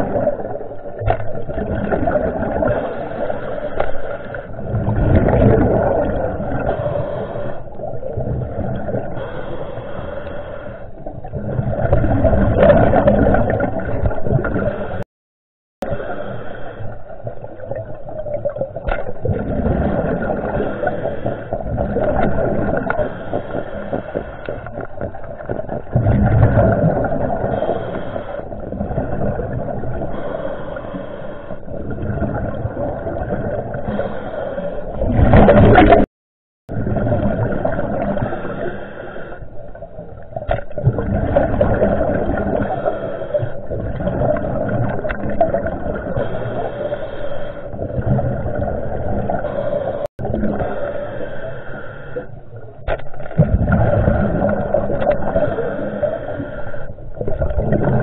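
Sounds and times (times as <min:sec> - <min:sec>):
underwater rumble and gurgling: 0:00.0 - 0:15.0, 0:15.8 - 0:36.1, 0:36.7 - 0:58.0.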